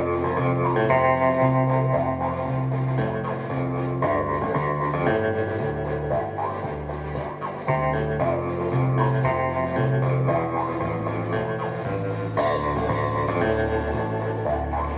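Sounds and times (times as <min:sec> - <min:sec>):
bass guitar: 0:00.0 - 0:14.9
drums: 0:00.0 - 0:14.9
guitar: 0:00.0 - 0:14.9.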